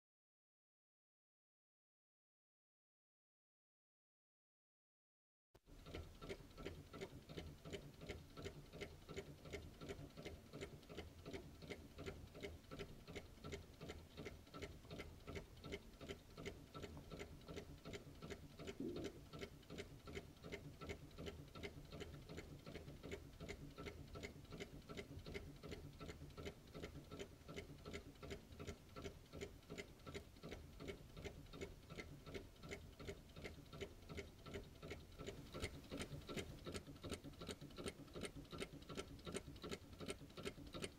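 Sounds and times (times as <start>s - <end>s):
model engine ticking: 5.7s - 40.9s.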